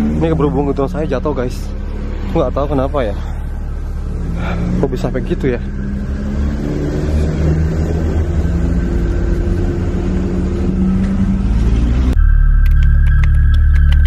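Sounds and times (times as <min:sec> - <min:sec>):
motor vehicle engine rumble: 0:00.0 - 0:14.0.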